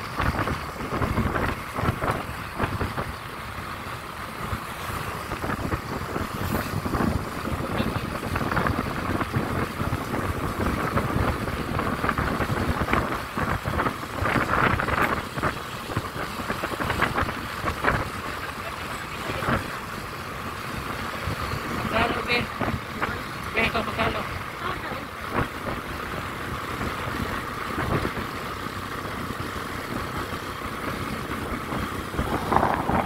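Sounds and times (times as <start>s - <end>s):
vehicle rumbling with knocks: 0.0s - 33.0s.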